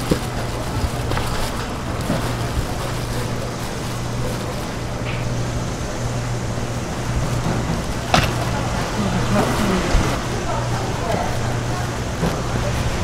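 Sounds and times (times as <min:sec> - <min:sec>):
low mechanical hum: 0:00.0 - 0:13.0
noisy market background: 0:00.0 - 0:13.0.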